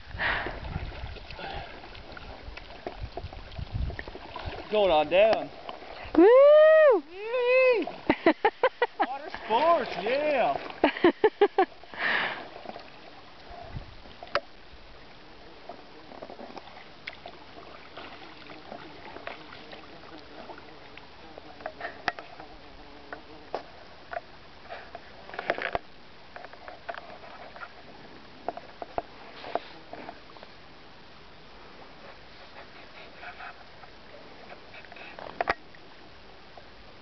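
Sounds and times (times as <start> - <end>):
water lapping around a boat: 0.0 - 6.2, 7.6 - 37.0.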